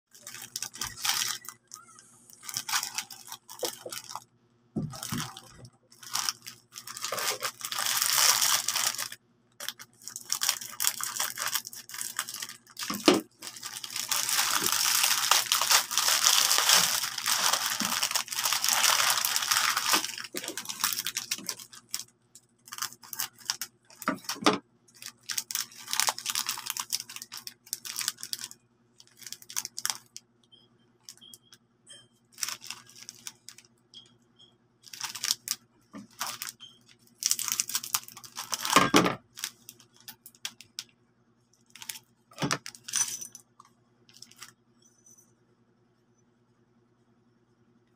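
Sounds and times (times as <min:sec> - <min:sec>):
plastic snack packets crinkling: 0:00.1 - 0:30.2, 0:32.4 - 0:33.7, 0:34.8 - 0:40.9, 0:41.6 - 0:43.0, 0:44.1 - 0:44.5.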